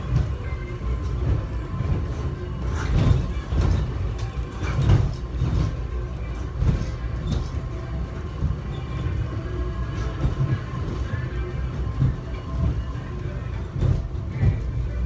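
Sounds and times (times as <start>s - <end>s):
train clacks and rattles: 0.0s - 15.0s
train rumbling: 0.0s - 15.0s.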